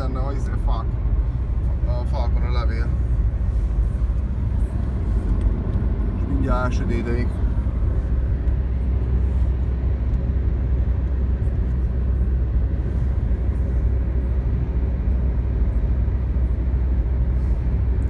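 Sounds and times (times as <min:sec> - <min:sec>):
car tyres and engine rumble: 0:00.0 - 0:18.0.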